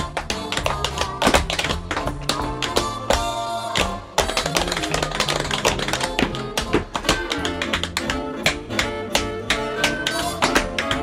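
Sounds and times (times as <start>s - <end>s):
instrumental music: 0.0s - 11.0s
tap shoes on wooden floor: 0.0s - 11.0s.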